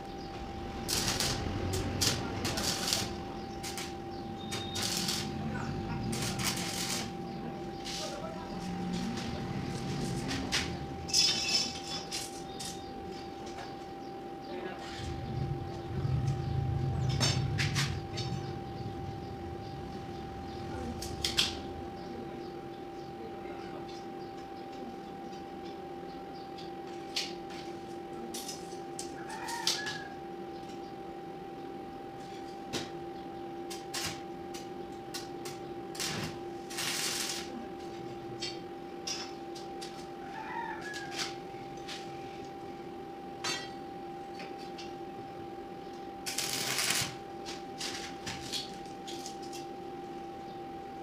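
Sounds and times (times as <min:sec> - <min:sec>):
steady hum: 0:00.0 - 0:51.0.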